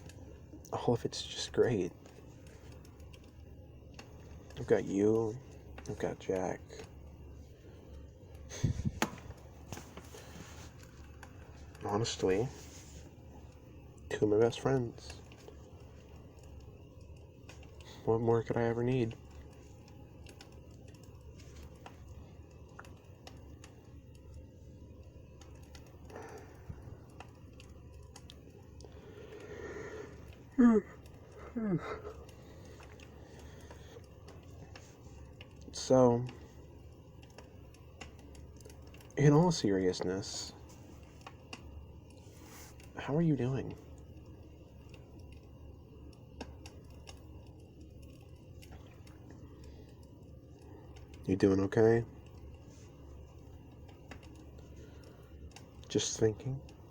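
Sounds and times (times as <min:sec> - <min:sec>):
campfire crackling: 0:00.0 - 0:56.9
low steady background noise: 0:00.0 - 0:56.9.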